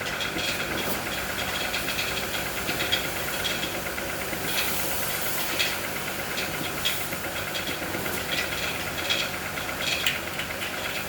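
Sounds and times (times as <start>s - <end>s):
tractor diesel engine clattering: 0.0s - 11.0s.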